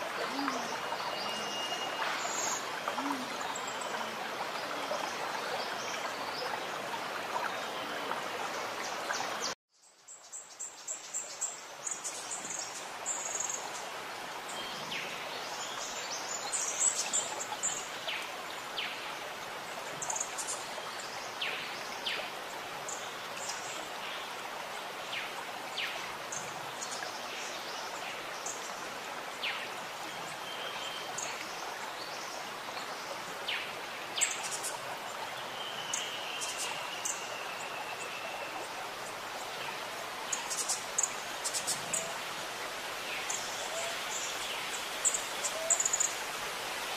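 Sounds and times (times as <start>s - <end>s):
running water rushing: 0.0s - 9.6s, 10.5s - 46.9s.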